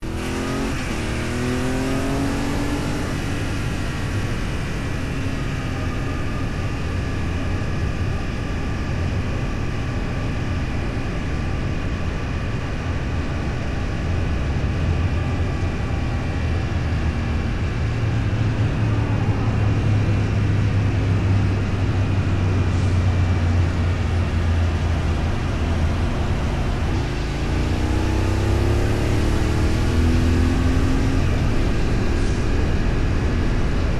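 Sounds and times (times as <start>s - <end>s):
vehicle engine accelerating: 0.0s - 8.1s, 13.2s - 33.9s
road and wind rumble: 0.0s - 33.9s.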